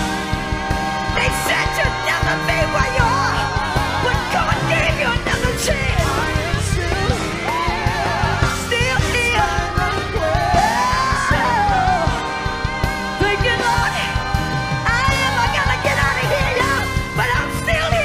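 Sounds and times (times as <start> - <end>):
band with drums and electric guitar: 0.0 - 18.0
woman singing gospel: 0.0 - 18.0.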